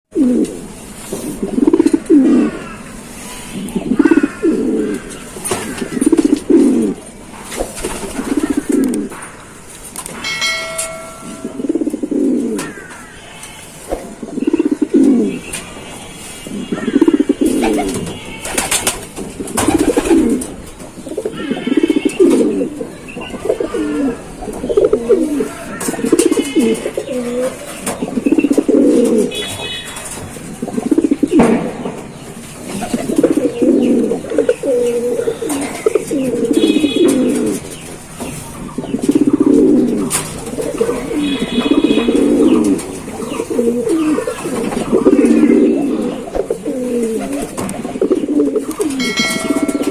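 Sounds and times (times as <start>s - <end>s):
pigeons cooing: 0.1s - 9.2s, 10.4s - 31.6s, 32.3s - 49.9s.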